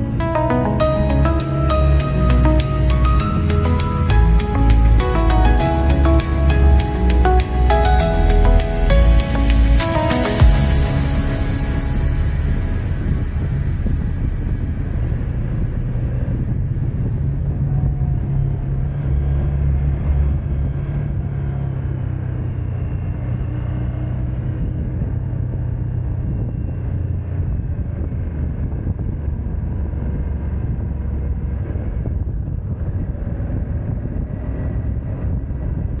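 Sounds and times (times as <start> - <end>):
vehicle engine and road rumble: 0.0 - 36.0.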